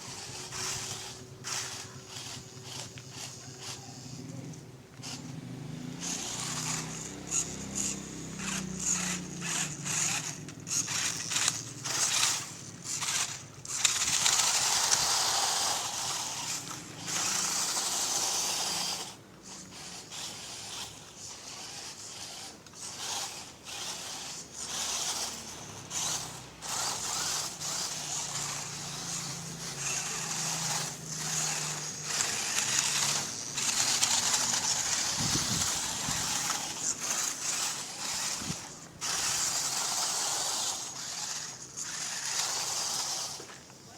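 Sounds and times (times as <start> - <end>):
electric motor and gears whirring: 0.0 - 43.9
scraping and crunching over ground: 6.0 - 43.9.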